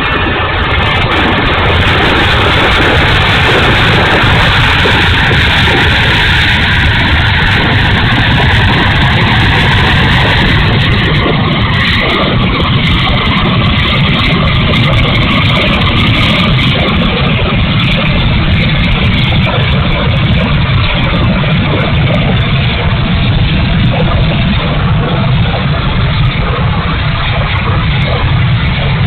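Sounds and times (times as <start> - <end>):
electric ducted fans running loudly: 0.0 - 29.0.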